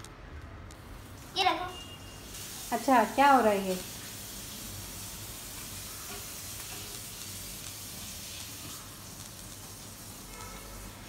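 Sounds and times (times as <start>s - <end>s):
steady hiss: 0.8s - 11.0s.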